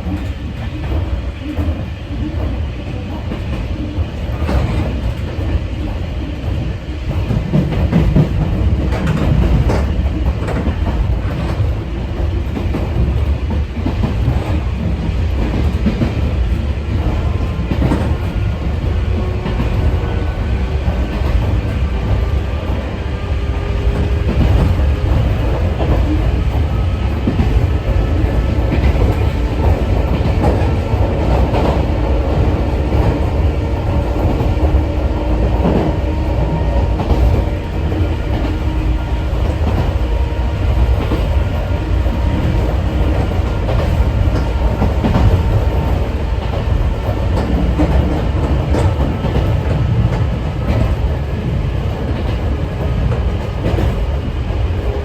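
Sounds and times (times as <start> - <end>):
rail-joint clicks: 0.0 - 55.0
train wheels rumbling: 0.0 - 55.0.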